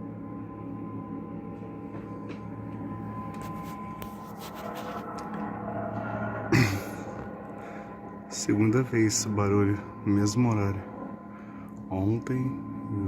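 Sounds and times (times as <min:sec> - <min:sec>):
low steady drone: 0:00.0 - 0:13.0.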